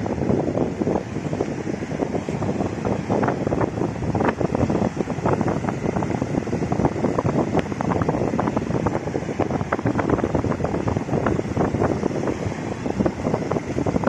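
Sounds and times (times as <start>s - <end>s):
gusty wind buffeting microphone: 0.0s - 14.0s
waves breaking on rocky shore: 0.0s - 14.0s.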